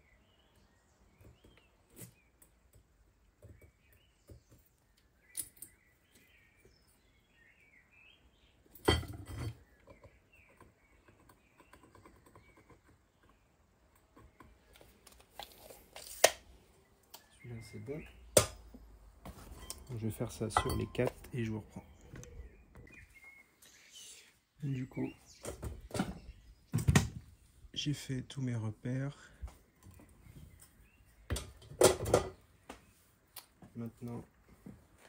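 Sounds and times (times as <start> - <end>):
birds chirping: 0.0 - 15.9, 16.5 - 35.0.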